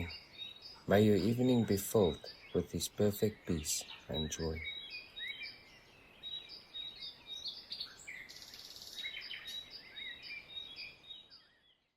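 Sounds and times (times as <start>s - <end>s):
songbirds chirping and singing: 0.0s - 11.9s.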